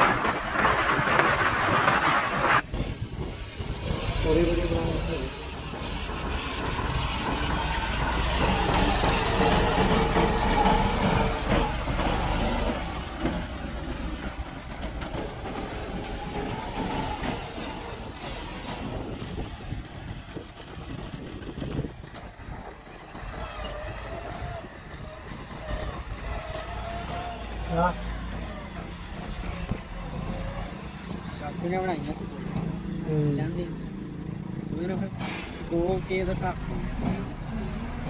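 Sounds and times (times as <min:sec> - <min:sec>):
tractor engine passing: 0:00.0 - 0:38.0.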